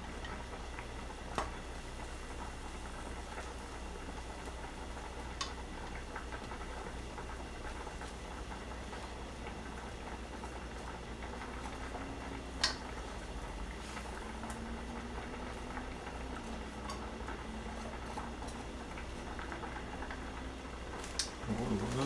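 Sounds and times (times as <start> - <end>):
bread sizzling in a frying pan: 0.0 - 22.0
pasta water boiling: 0.0 - 22.0.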